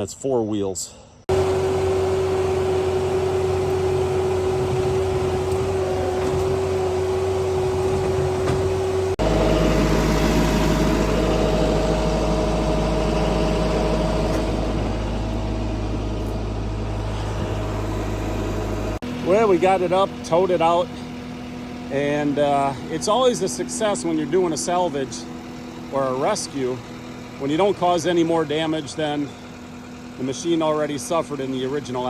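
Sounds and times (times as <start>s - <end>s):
engine running at working revs: 1.3s - 32.0s.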